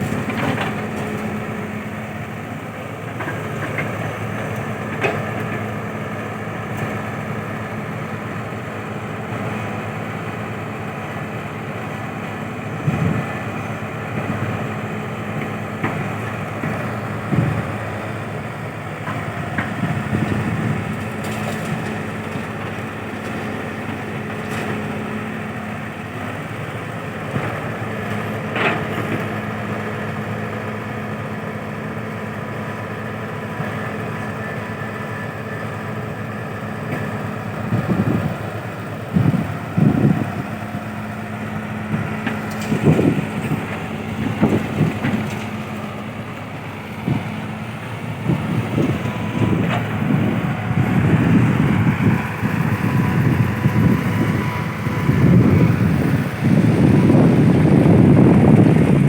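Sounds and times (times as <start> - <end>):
engine hum: 0.0 - 59.0.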